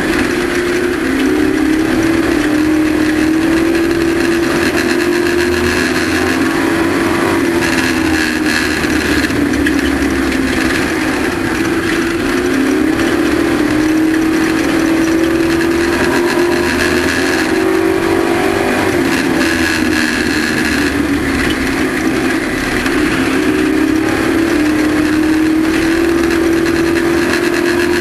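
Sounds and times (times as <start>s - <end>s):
race truck engine running hard: 0.0s - 28.0s.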